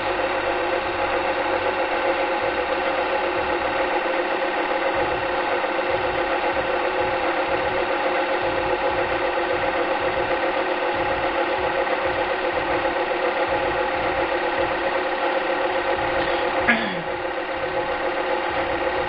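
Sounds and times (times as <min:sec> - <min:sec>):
film projector clatter: 0:00.0 - 0:19.0
film projector whirring: 0:00.0 - 0:19.0.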